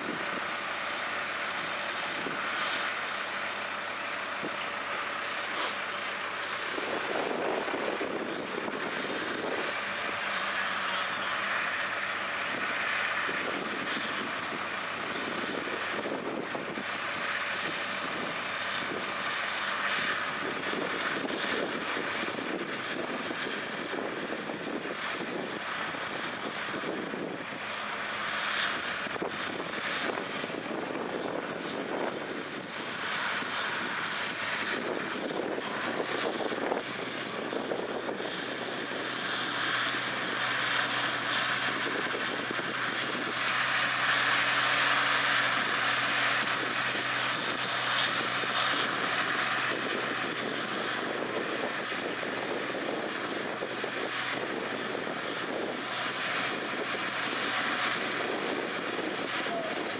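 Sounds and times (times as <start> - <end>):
tractor engine under load: 0.0 - 59.9.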